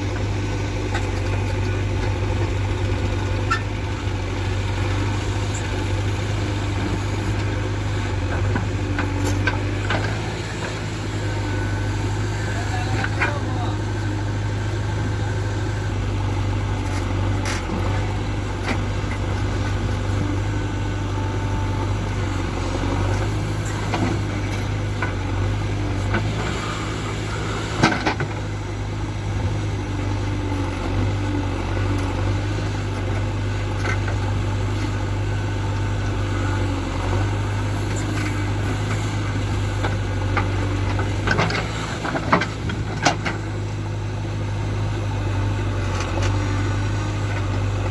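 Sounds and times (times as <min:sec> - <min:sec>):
diesel engine humming: 0:00.0 - 0:47.9.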